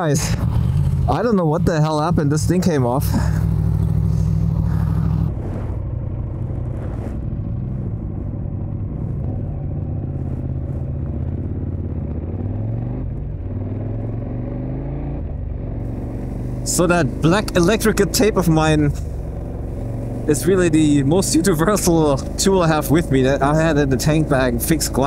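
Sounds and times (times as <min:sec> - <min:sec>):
motorcycle engine running: 0:00.0 - 0:14.4, 0:15.2 - 0:25.0.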